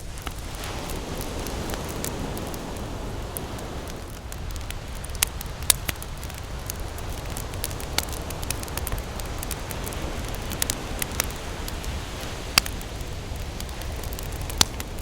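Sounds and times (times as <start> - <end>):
campfire crackling and popping: 0.0 - 15.0
ocean surf rushing: 0.0 - 15.0.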